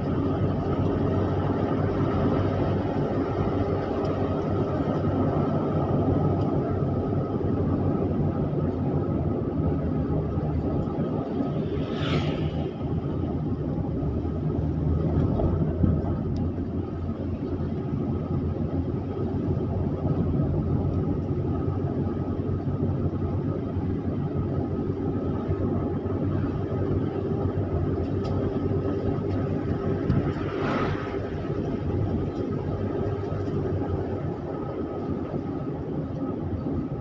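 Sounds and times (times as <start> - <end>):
car engine and tyre noise: 0.0 - 37.0.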